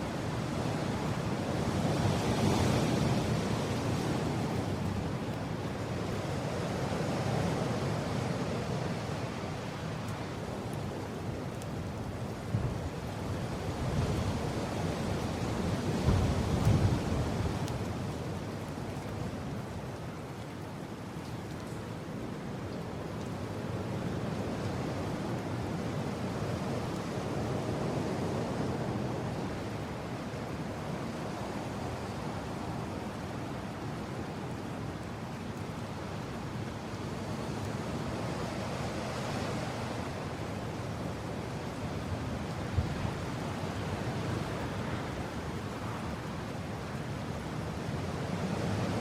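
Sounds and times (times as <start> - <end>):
gusting wind: 0.0 - 49.0.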